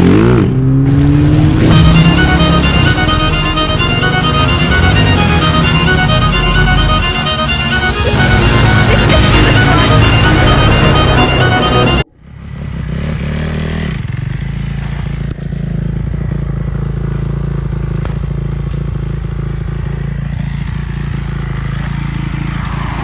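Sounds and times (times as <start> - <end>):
dirt bike engine running: 0.0 - 22.2.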